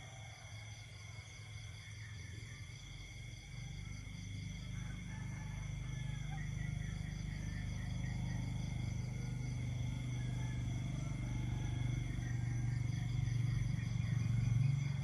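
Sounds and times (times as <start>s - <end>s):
insects trilling: 0.0s - 15.0s
low pulsing insect drone: 0.0s - 15.0s.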